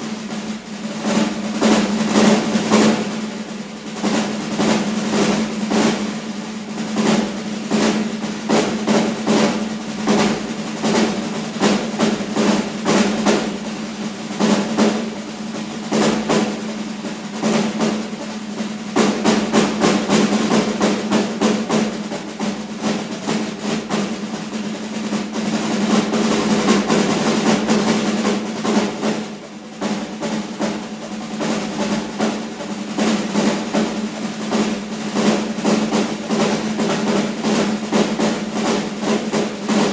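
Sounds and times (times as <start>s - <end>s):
snare drums rolling: 0.0s - 39.9s.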